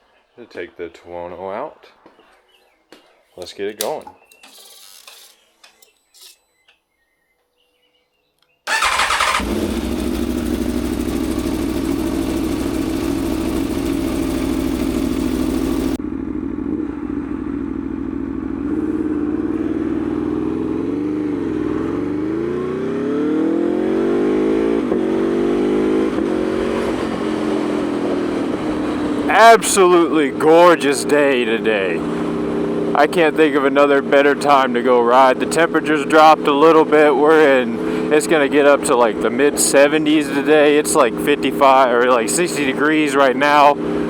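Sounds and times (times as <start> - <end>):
motorcycle engine idling and revving: 8.7 - 44.0.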